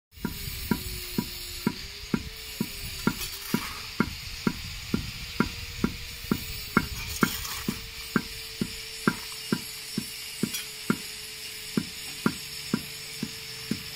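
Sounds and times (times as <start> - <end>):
hammer pounding brick: 0.2 - 11.1, 11.7 - 13.9.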